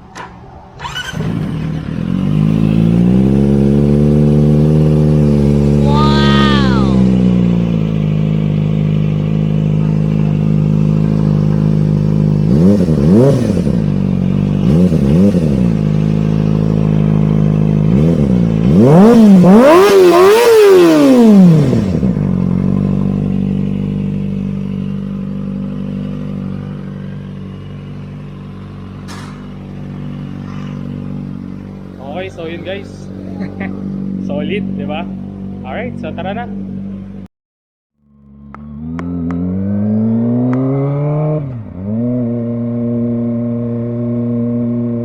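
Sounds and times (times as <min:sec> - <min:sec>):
motorcycle engine idling and revving: 0:00.0 - 0:37.3, 0:38.0 - 0:45.0.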